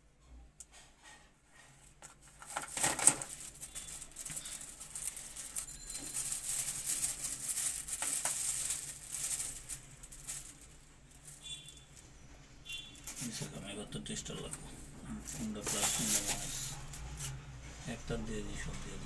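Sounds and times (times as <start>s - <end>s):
wires rustling and scraping: 0.6s - 18.0s.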